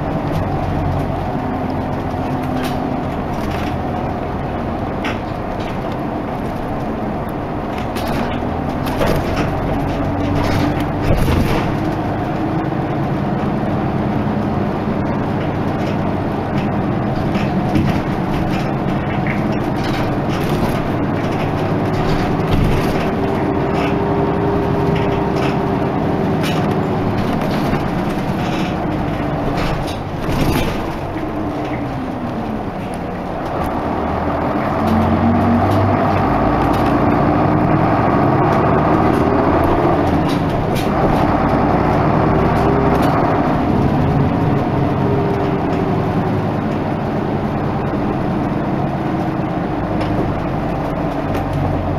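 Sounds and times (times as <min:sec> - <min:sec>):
knocks and rattles: 0:00.0 - 0:13.8, 0:14.6 - 0:51.9
bus diesel engine running: 0:00.0 - 0:51.9.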